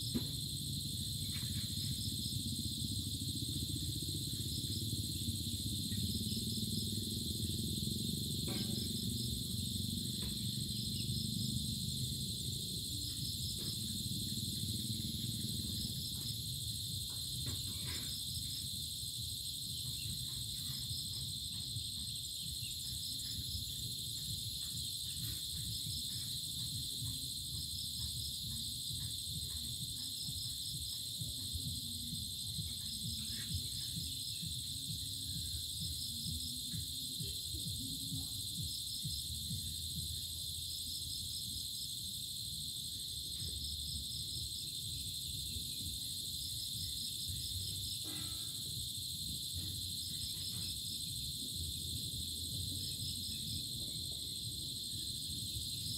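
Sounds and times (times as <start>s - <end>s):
crickets droning: 0.0s - 55.9s
rapid insect chirps: 0.0s - 55.9s.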